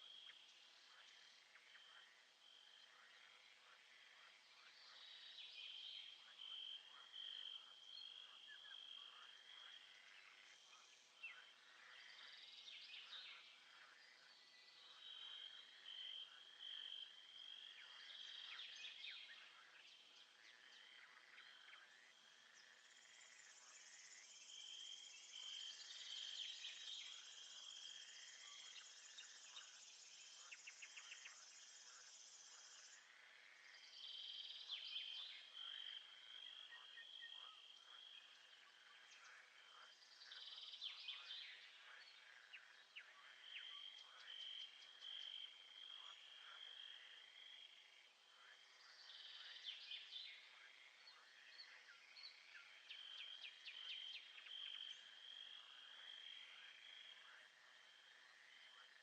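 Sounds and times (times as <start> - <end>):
insect chirps and calls: 0.0 - 59.0.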